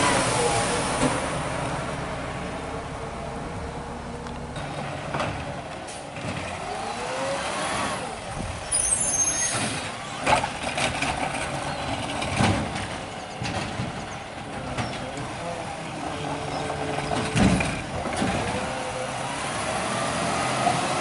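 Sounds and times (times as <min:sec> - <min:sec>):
garbage truck engine running: 0:00.0 - 0:21.0.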